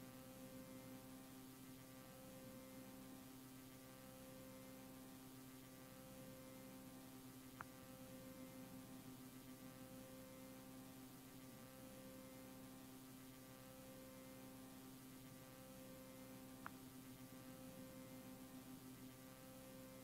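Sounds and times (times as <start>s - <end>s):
faint videotape hum and hiss: 0.0s - 20.0s.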